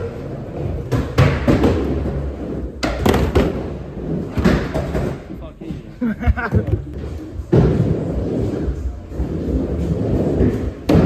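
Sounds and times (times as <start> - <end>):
skateboards knocking and slapping: 0.0 - 5.3, 6.2 - 11.0.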